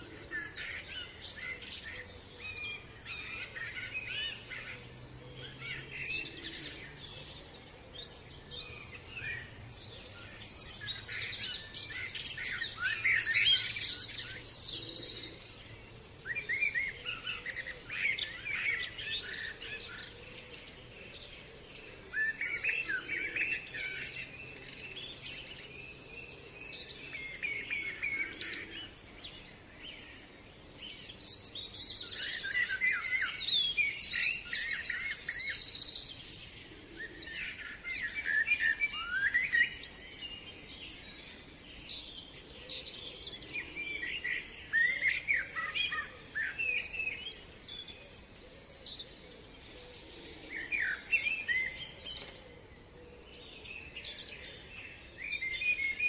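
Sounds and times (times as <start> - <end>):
wild birds singing: 0.0 - 56.0.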